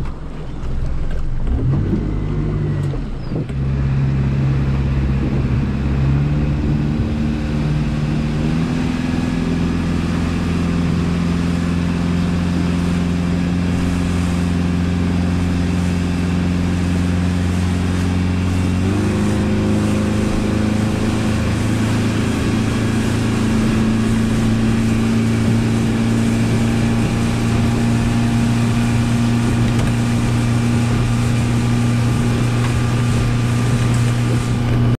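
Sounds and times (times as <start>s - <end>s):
outboard motor running at speed: 0.0s - 35.0s
water rushing from boat wake: 0.0s - 35.0s.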